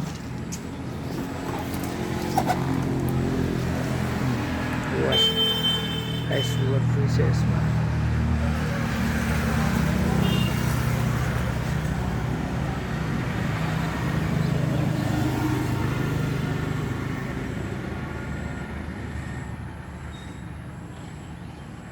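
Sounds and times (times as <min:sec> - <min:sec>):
vehicle engine humming: 0:00.0 - 0:20.8.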